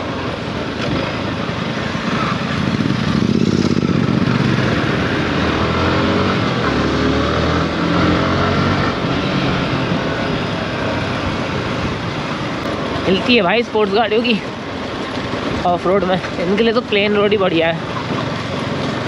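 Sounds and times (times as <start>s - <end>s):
motorcycle engine rising and falling: 0.0s - 19.0s.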